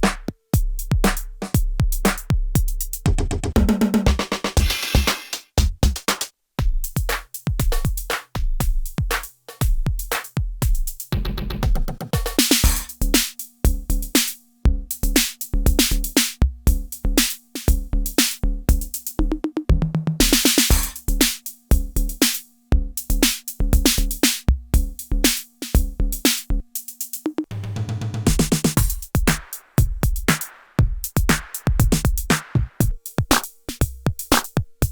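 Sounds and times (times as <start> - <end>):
drum machine beat: 0.0 - 34.9.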